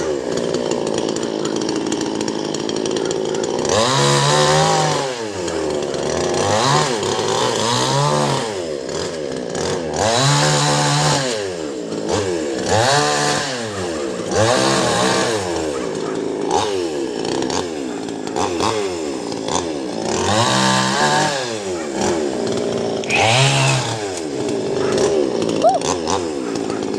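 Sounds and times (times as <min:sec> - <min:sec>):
chainsaw engine revving: 0:00.0 - 0:26.9.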